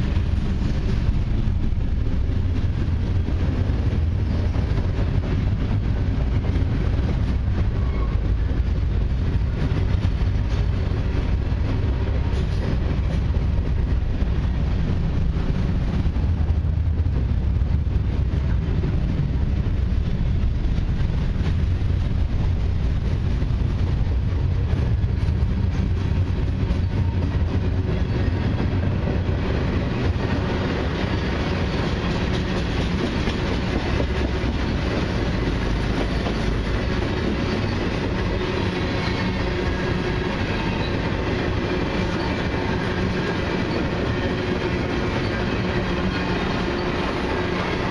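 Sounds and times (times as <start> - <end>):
freight train rumbling past: 0.0 - 47.9
steel wheels hissing on rail: 0.0 - 47.9
wheels clacking over rail joints: 0.0 - 47.9.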